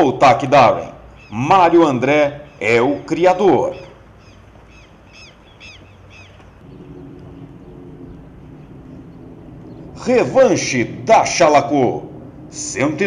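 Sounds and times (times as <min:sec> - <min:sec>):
outdoor background noise: 0:00.0 - 0:13.0
bird chirping: 0:02.3 - 0:12.8
steady low hum: 0:02.4 - 0:13.0.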